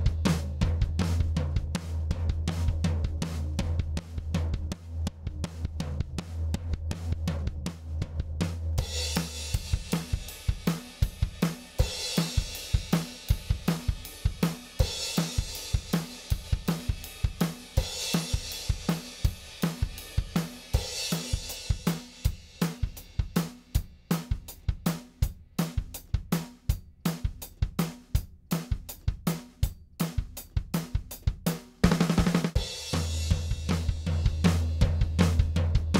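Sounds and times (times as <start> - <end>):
drum kit groove: 0.0 - 35.9.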